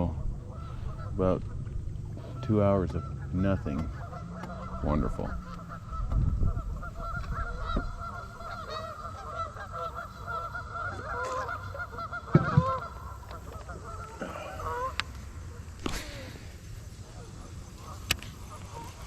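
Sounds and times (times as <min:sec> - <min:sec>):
waterfowl calling: 0:00.0 - 0:19.0.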